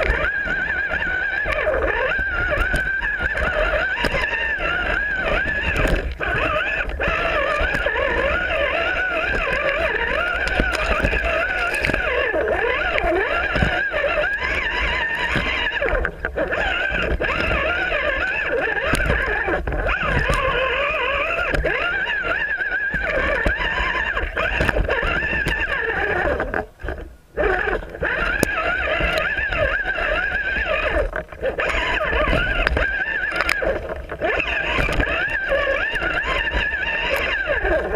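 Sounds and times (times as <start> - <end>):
electric motor and gearbox whining: 0.0 - 37.9.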